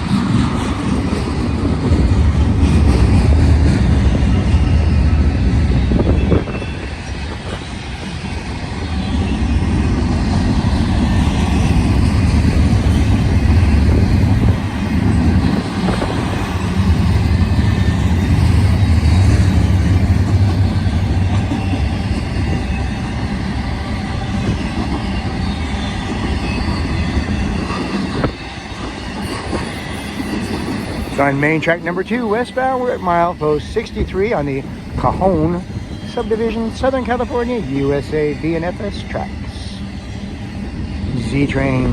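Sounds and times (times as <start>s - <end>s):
freight train wheels rumbling: 0.0s - 41.9s.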